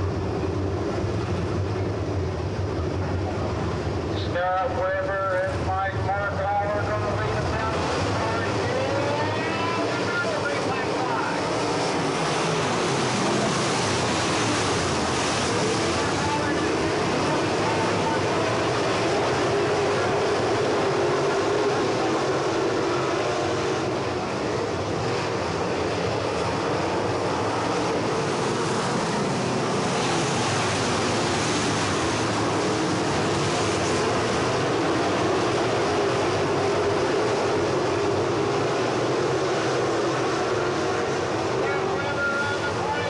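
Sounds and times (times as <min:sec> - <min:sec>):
race car engines droning: 0:00.0 - 0:43.0.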